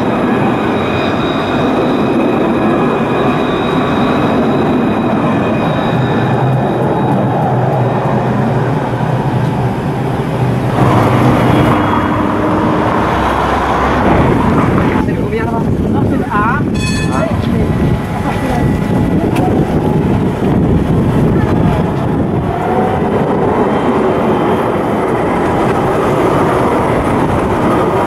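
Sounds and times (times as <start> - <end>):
electric tram whine and rumble: 0.0 - 28.0
loud rushing noise: 0.0 - 28.0.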